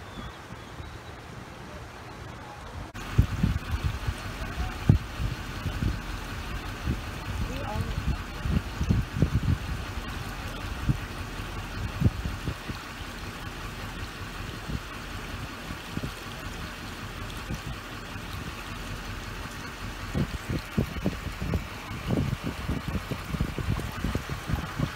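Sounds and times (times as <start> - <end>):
floodwater rushing across street: 0.0 - 24.9.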